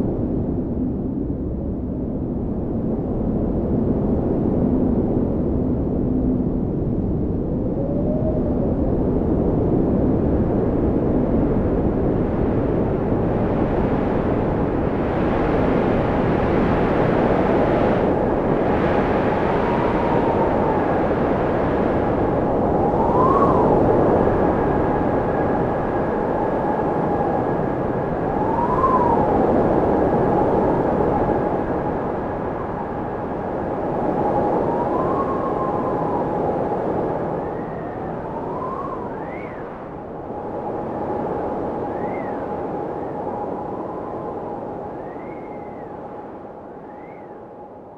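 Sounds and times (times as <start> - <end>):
faint wind whistling: 0.0 - 47.9
wind blowing: 7.0 - 47.9.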